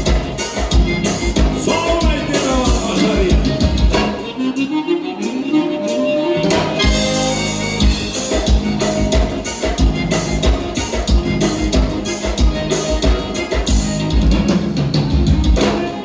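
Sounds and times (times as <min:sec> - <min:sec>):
bass: 0:00.0 - 0:04.3, 0:06.4 - 0:16.0
accordion: 0:00.0 - 0:16.0
drums: 0:00.0 - 0:16.0.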